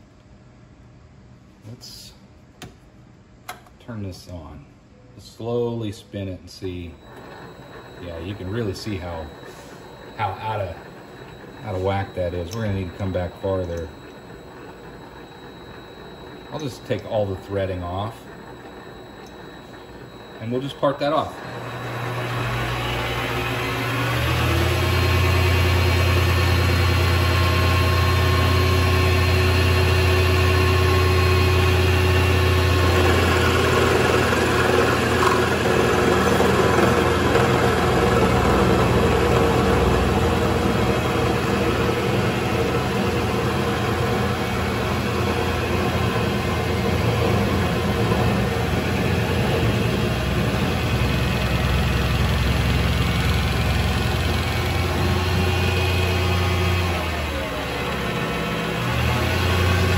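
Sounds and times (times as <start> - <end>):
lathe motor humming: 6.8 - 59.9.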